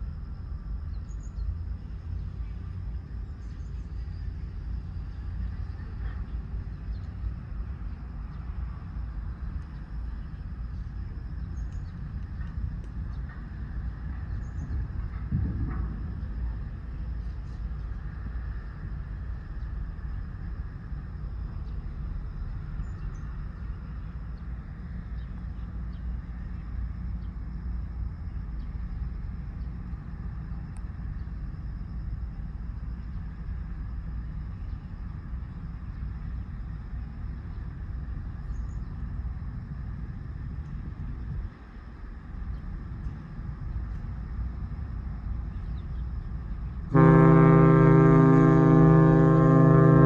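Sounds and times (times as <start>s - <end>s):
low engine rumble: 0.0s - 50.0s.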